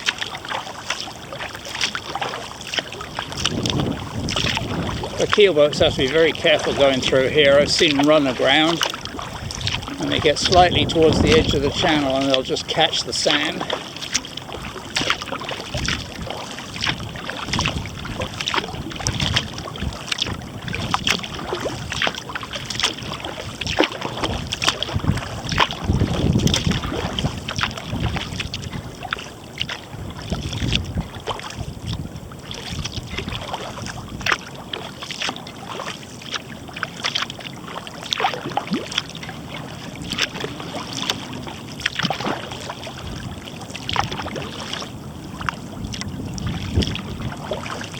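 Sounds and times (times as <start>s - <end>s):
paddle splashing water: 0.0s - 47.9s
wind rumble on microphone: 1.8s - 47.9s.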